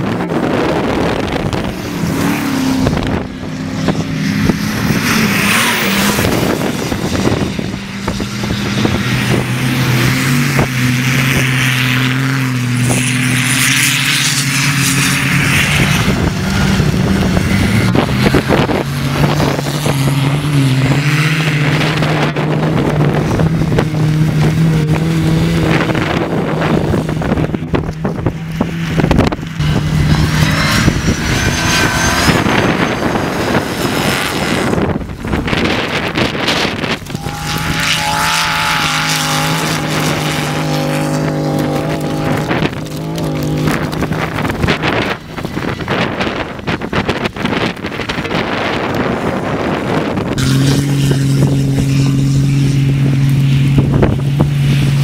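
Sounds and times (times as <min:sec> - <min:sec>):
racing engines: 0:00.0 - 0:55.0
wind buffeting microphone: 0:00.0 - 0:55.0.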